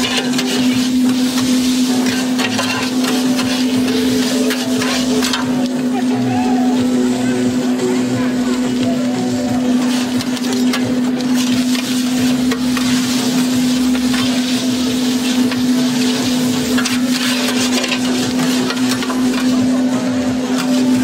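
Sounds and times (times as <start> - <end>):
metal spatulas scraping griddle: 0.0 - 6.0, 9.7 - 21.0
continuous low hum: 0.0 - 21.0
noodles sizzling on griddle: 0.0 - 21.0.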